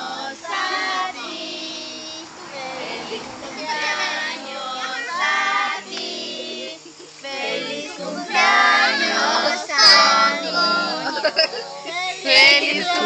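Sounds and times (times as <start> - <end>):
children and women singing: 0.0 - 13.0.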